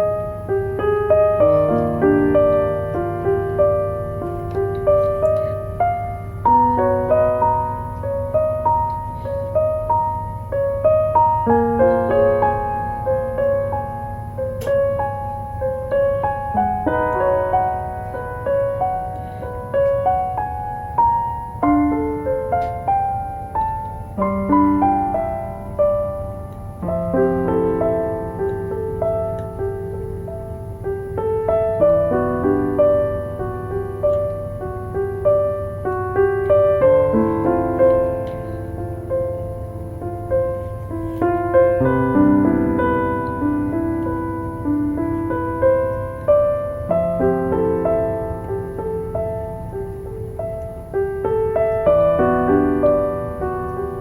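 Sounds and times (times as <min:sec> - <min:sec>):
low background hum: 0:00.0 - 0:54.0
slow gentle piano music: 0:00.0 - 0:54.0.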